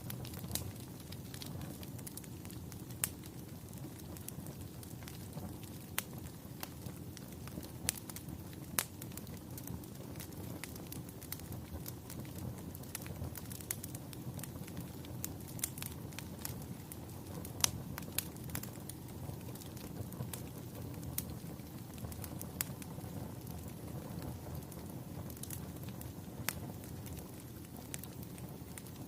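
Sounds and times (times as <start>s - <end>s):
fire crackling: 0.0s - 29.0s
low rumble of flames: 0.0s - 29.0s.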